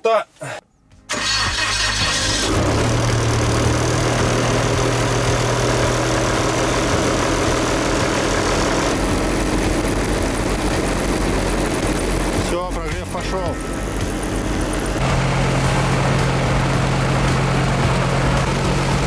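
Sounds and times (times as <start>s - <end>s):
airboat engine idling: 3.2s - 19.0s.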